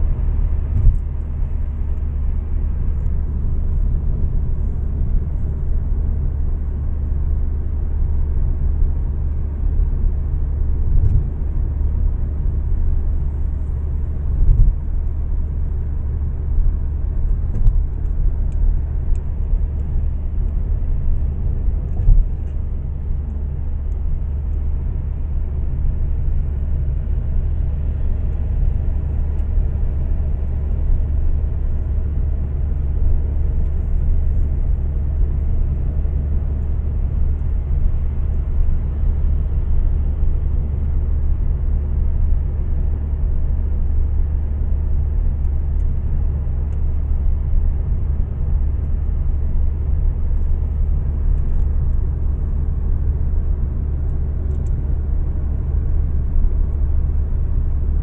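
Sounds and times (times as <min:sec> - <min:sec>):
road and tyre noise in car: 0:00.0 - 0:58.0.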